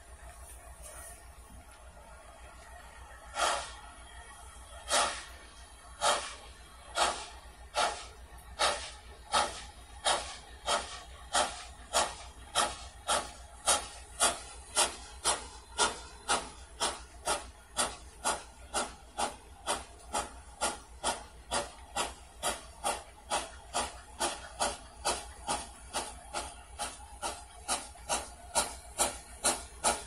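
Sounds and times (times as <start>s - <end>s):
steam locomotive chuffing: 0.0s - 30.0s.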